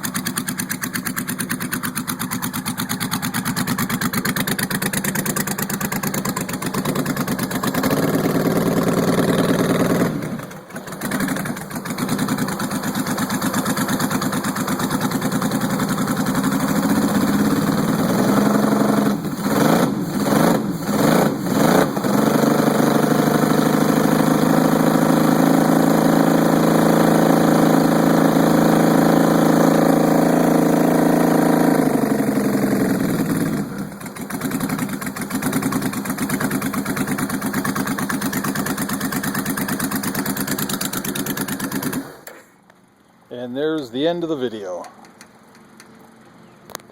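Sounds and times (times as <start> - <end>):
motorcycle engine revving: 0.0 - 42.5.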